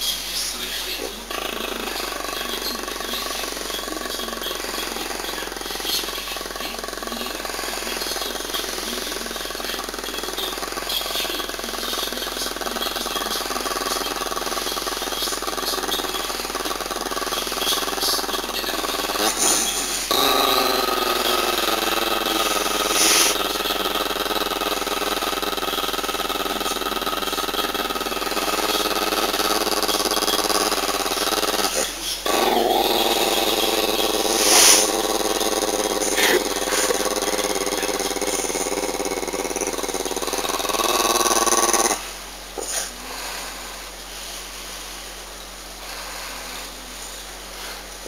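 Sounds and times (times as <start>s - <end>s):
small dog growling: 0.0s - 43.0s.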